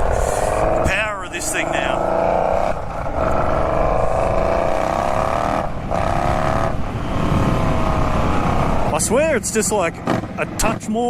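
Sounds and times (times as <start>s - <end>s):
motorcycle engine running loud: 0.0s - 11.0s.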